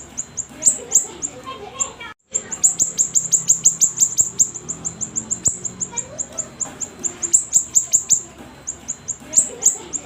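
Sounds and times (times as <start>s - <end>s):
songbird high chirps: 0.0s - 10.0s.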